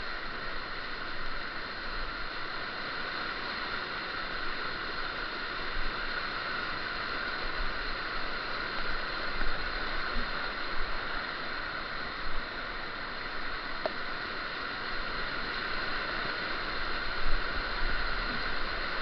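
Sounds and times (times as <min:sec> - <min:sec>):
brook water flowing: 0:00.0 - 0:19.0.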